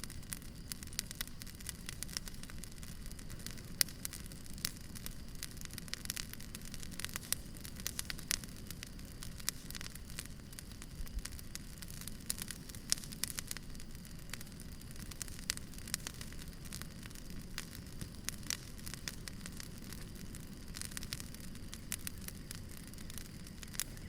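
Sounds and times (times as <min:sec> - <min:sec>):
firewood crackling and popping: 0:00.0 - 0:24.0
steady low hiss: 0:00.0 - 0:24.0.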